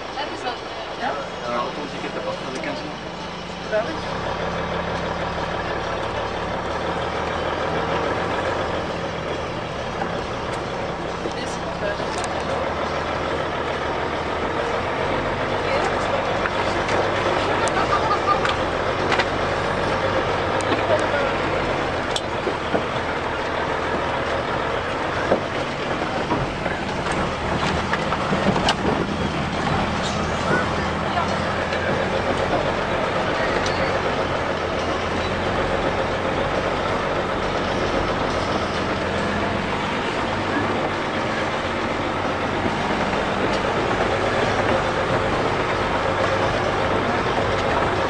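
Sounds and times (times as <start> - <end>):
constant noise: 0.0 - 48.0
vehicle engine humming: 0.0 - 48.0.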